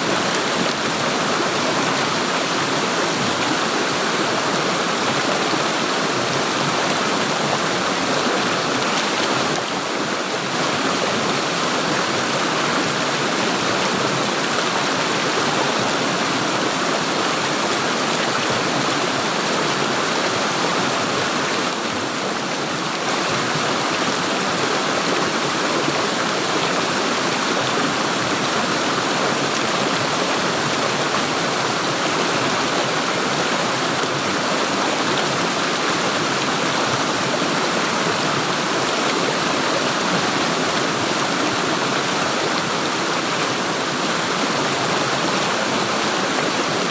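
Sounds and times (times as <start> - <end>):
stream water gurgling: 0.0 - 46.9.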